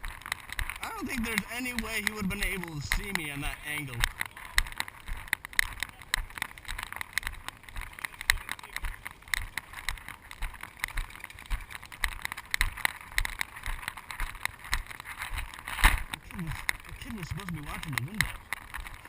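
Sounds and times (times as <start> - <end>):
footsteps crunching: 0.0 - 19.0
gear rustling: 0.0 - 19.0.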